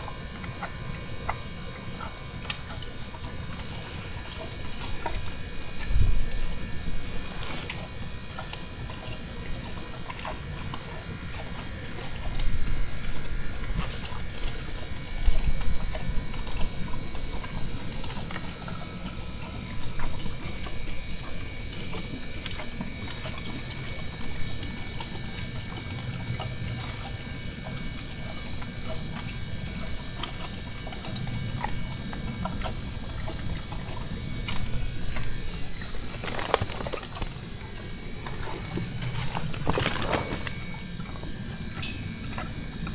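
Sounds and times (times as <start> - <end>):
horse chewing feed: 0.0 - 27.8, 28.9 - 42.9.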